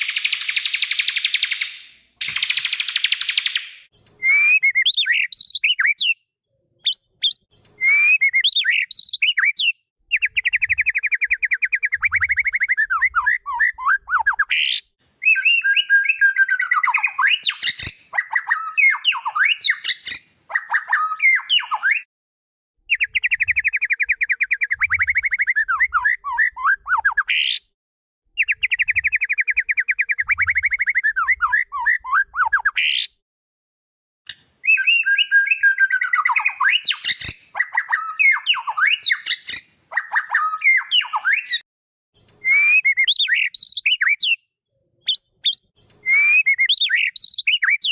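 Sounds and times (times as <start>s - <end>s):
songbird trills and whistles: 0.0s - 6.2s, 6.8s - 22.1s, 22.9s - 27.7s, 28.4s - 33.1s, 34.3s - 41.6s, 42.2s - 44.5s, 45.1s - 47.9s.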